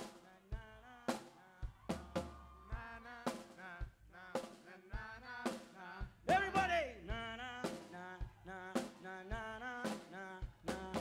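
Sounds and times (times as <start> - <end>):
bass drum and snare beat: 0.0 - 11.0.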